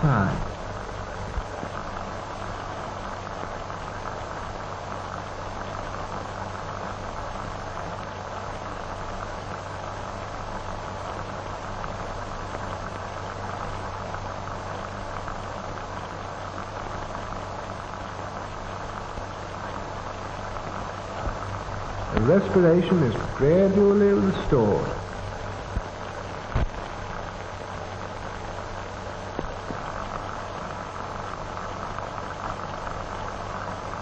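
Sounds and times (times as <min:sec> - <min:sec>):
film soundtrack hiss: 0:00.0 - 0:34.0
low hum: 0:00.0 - 0:34.0.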